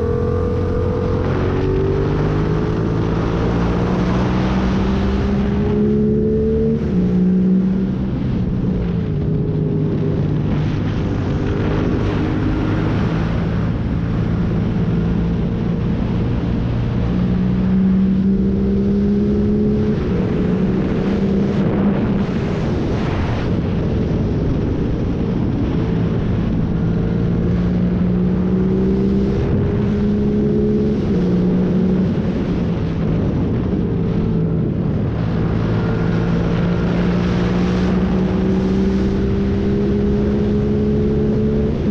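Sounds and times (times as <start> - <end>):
motorcycle engine revving: 0.0 - 22.7, 26.0 - 41.9.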